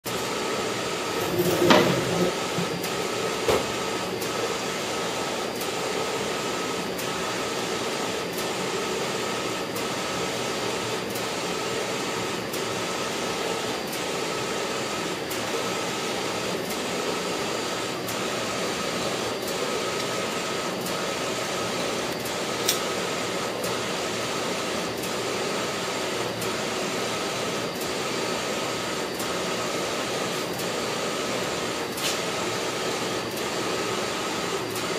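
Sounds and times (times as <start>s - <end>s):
printer carriage whirring: 0.1s - 34.9s.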